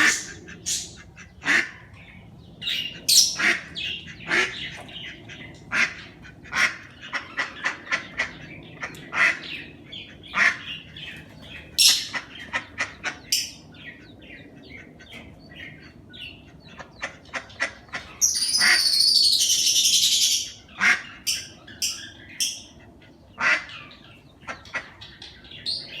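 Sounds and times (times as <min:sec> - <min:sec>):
birds chirping and squawking: 0:00.0 - 0:26.0.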